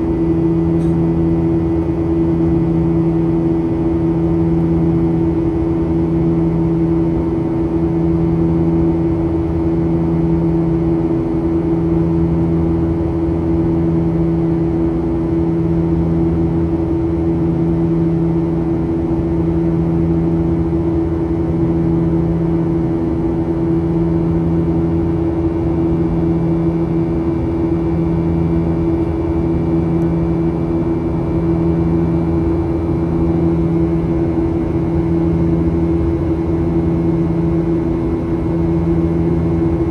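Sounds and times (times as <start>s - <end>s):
jet engines droning in cabin: 0.0s - 39.9s.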